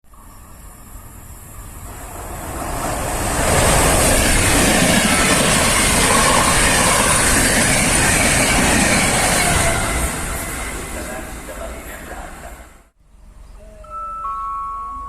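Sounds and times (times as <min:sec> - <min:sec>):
train wheels rushing on rail: 0:00.2 - 0:12.9.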